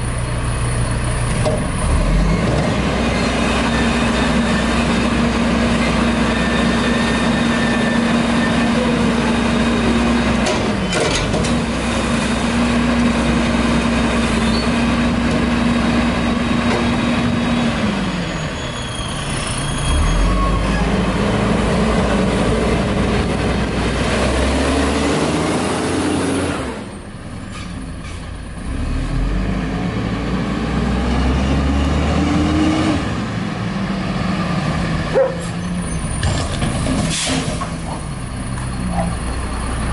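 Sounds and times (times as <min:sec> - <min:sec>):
garbage truck diesel engine revving: 0:00.4 - 0:27.1, 0:28.6 - 0:39.9.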